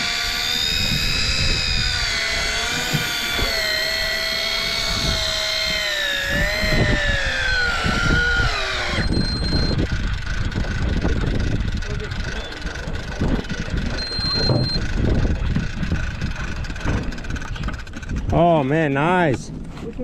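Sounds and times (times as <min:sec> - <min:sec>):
electric fishing reel whine: 0:00.0 - 0:19.2.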